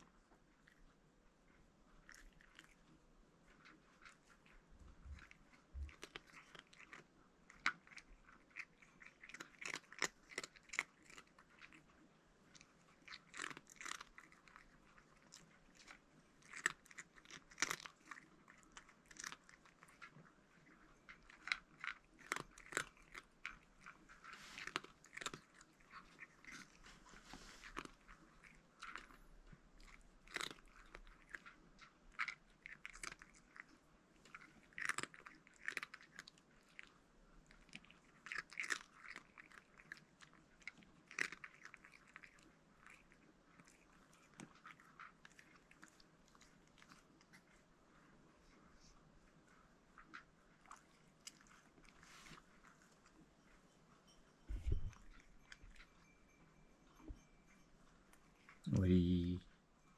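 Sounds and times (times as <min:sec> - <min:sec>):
cat crunching hard food: 0:02.0 - 0:48.2, 0:49.4 - 0:53.2.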